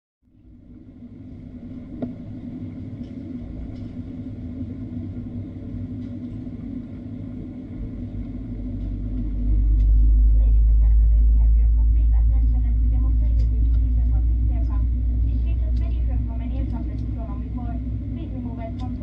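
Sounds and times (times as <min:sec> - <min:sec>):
jet engines rumbling: 0:00.3 - 0:19.0.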